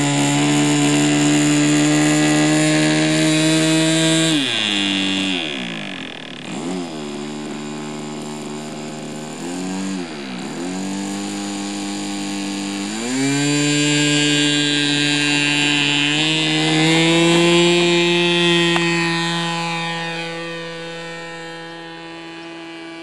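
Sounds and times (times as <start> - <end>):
model airplane engine: 0.0 - 23.0.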